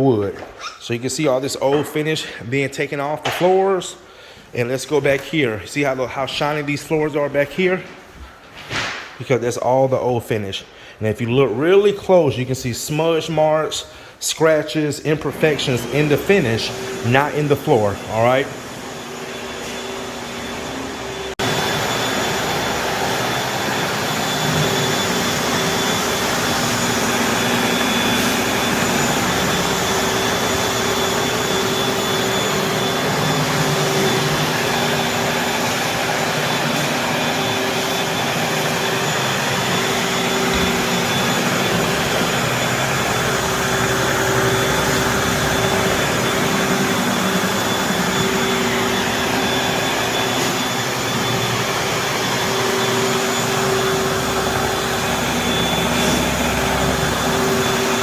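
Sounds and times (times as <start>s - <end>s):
floor machine whining: 0.0s - 8.6s, 11.2s - 58.0s.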